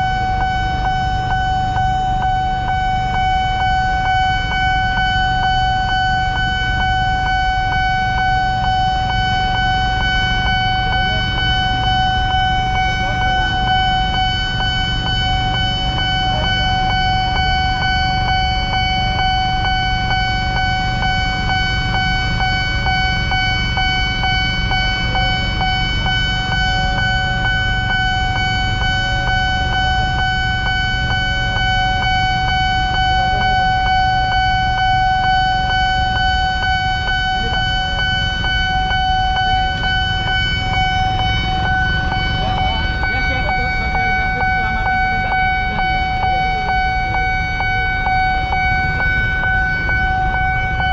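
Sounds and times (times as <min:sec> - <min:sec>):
level-crossing alarm tone: 0:00.0 - 0:50.9
low rumble of traffic: 0:00.0 - 0:50.9.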